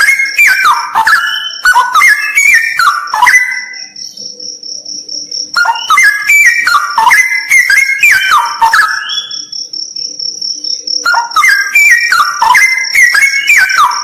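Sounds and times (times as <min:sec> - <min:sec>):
bird singing warbling phrases: 0:00.0 - 0:14.0
high-pitched insect trill: 0:00.0 - 0:14.0.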